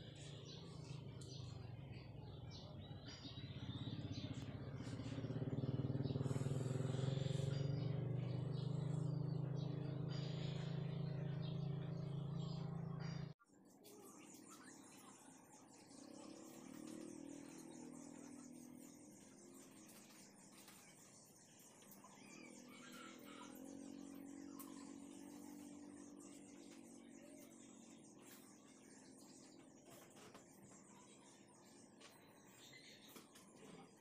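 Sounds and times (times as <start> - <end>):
vehicle engine running: 0.0 - 13.4, 15.8 - 34.0
birds chirping: 0.0 - 34.0.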